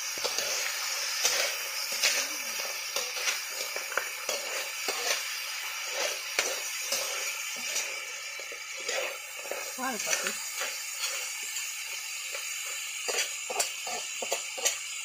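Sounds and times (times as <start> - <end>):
crabs sizzling in a wok: 0.0 - 15.0
metal spatula scraping pan: 0.2 - 14.8.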